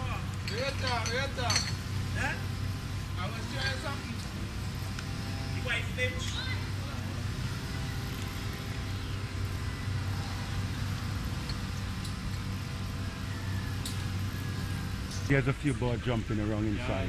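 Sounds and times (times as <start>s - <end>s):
faint road and wind noise: 0.0s - 17.0s
vehicle engine humming: 0.0s - 17.0s.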